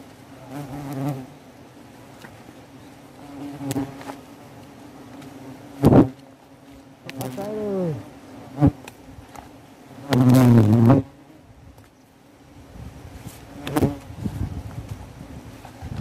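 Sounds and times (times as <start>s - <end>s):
wasps buzzing: 0.4s - 12.6s, 13.3s - 14.3s.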